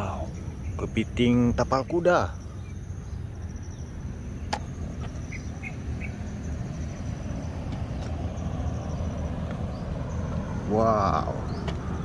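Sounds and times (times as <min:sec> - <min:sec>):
faint high insect trill: 0:00.0 - 0:10.3.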